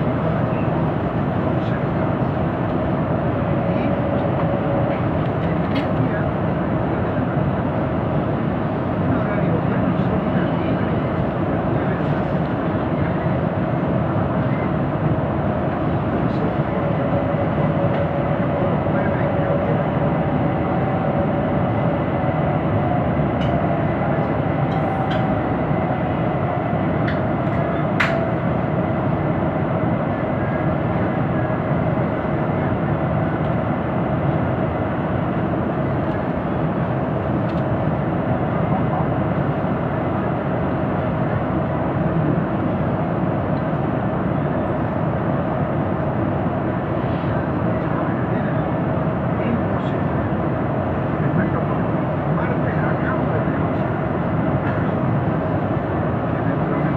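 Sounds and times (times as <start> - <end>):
train wheels rumbling: 0.0 - 56.9.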